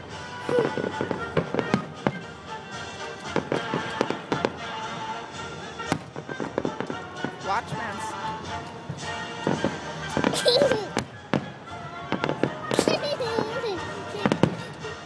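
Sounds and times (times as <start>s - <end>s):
background music: 0.0s - 15.0s
fireworks bangs and crackles: 0.0s - 15.0s.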